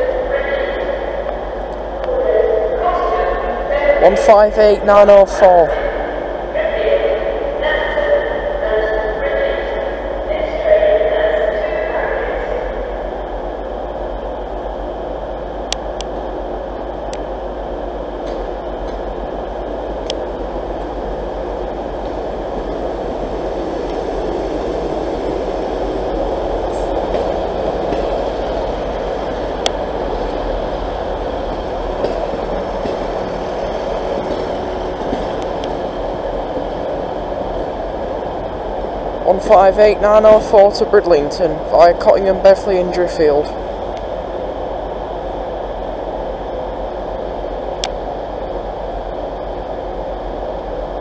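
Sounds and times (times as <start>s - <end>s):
train engine and wheels rumbling: 0.0s - 51.0s.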